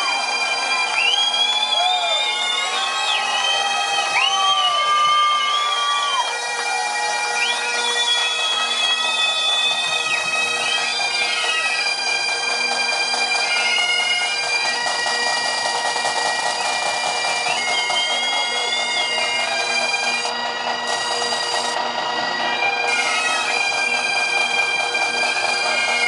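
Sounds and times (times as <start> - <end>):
bagpipe band playing: 0.0 - 26.0.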